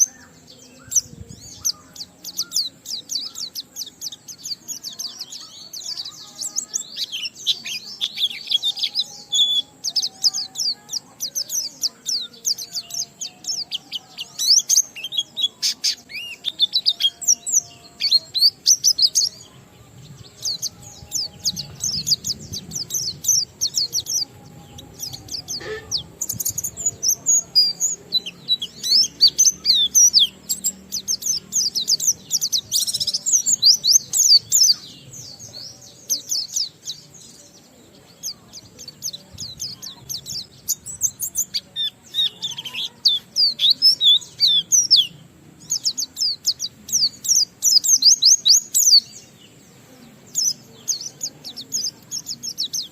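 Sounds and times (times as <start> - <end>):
bird singing rapid high chirps: 0.0 - 52.9.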